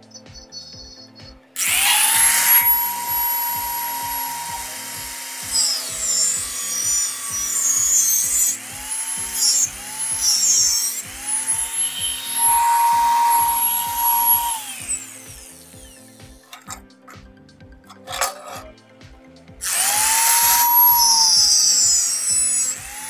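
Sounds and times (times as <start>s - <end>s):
background music with beat: 0.0s - 23.0s
angle grinder cutting metal: 1.6s - 16.8s, 17.9s - 18.7s, 19.6s - 23.0s.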